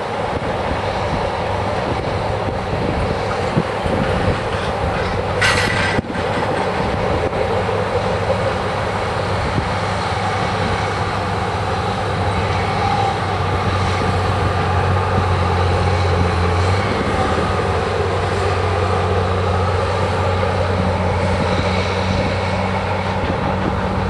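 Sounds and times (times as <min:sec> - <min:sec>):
freight train cars rolling: 0:00.0 - 0:24.0
tractor engine drone: 0:00.0 - 0:24.0.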